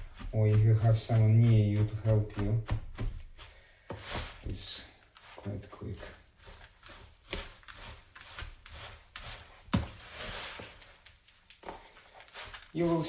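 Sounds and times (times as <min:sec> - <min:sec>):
mixture stirred in glass bowl: 0:00.0 - 0:13.0.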